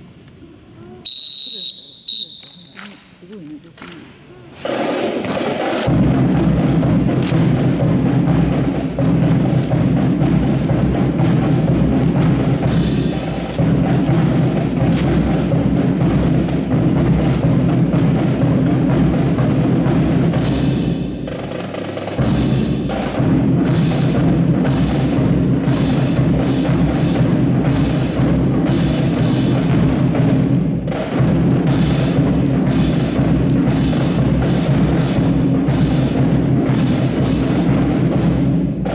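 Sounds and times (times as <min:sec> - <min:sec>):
loud drum-heavy music: 0:04.6 - 0:38.9.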